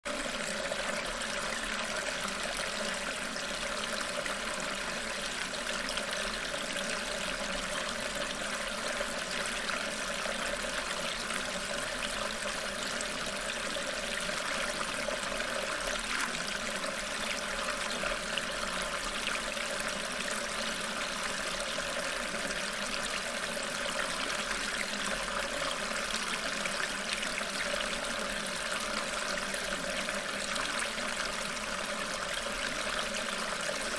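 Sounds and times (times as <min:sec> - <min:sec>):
flowing stream water: 0:00.1 - 0:33.9.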